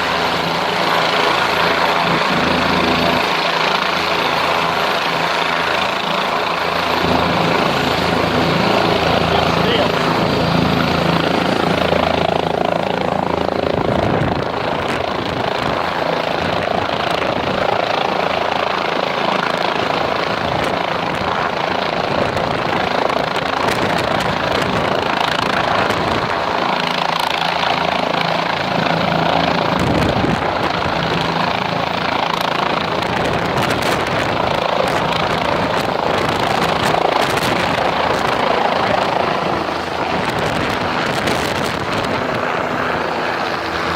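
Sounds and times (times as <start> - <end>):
helicopter engine hum: 0.0 - 43.9
helicopter rotor whooshing: 0.0 - 43.9.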